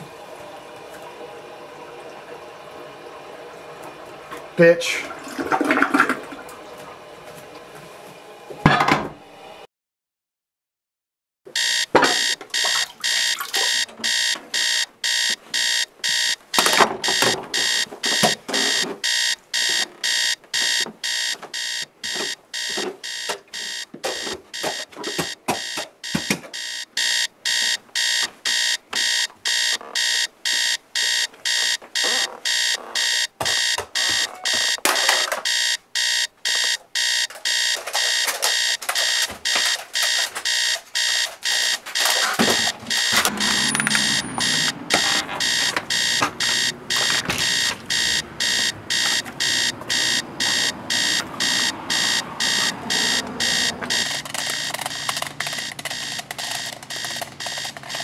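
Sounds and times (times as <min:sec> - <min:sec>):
alarm clock beeping: 0:11.5 - 0:58.0.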